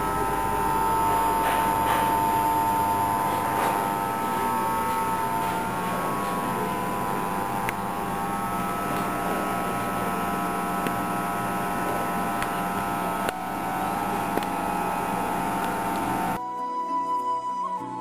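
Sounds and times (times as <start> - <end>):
hum and hiss with fixed tones: 0.0 - 16.4.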